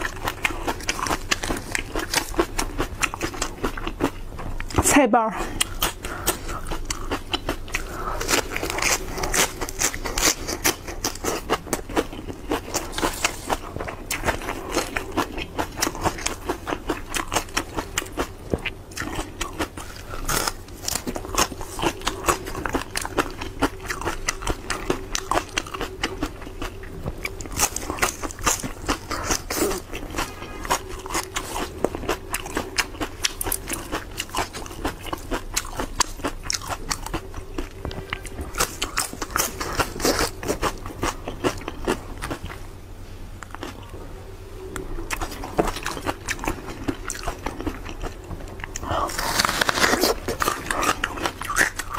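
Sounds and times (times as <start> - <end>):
crunching and chewing greens: 0.0 - 51.9.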